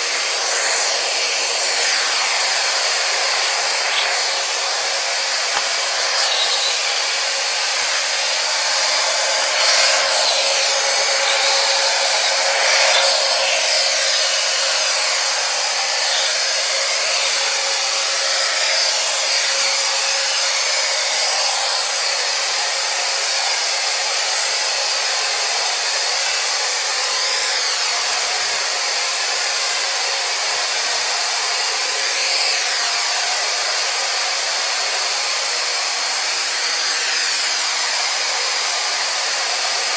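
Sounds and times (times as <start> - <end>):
robot vacuum cleaner whirring: 0.0 - 39.9.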